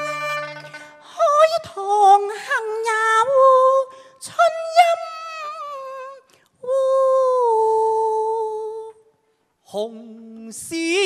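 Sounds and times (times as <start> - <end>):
woman singing opera: 0.0 - 9.0, 9.7 - 11.0.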